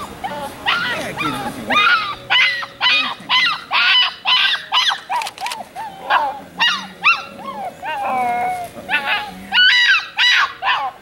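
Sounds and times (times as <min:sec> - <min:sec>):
puppy yipping: 0:00.0 - 0:11.0.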